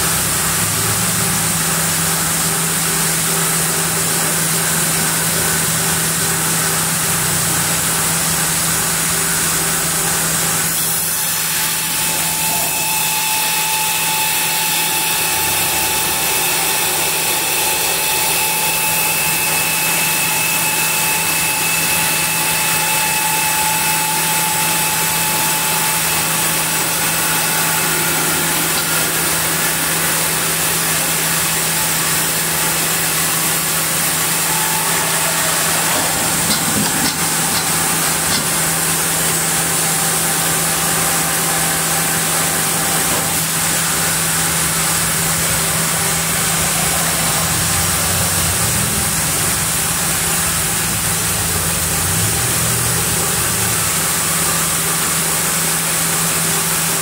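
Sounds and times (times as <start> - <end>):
band saw sawing a log: 9.9 - 57.0.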